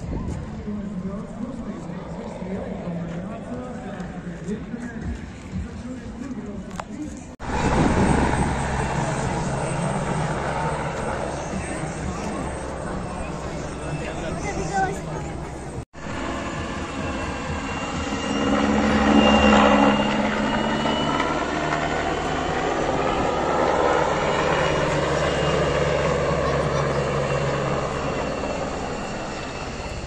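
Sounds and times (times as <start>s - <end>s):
helicopter turbine and rotor noise: 0.0s - 30.0s.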